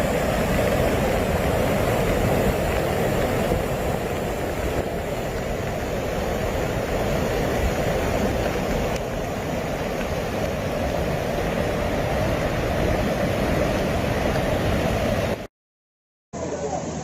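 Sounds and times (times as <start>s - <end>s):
rushing floodwater: 0.0s - 15.5s.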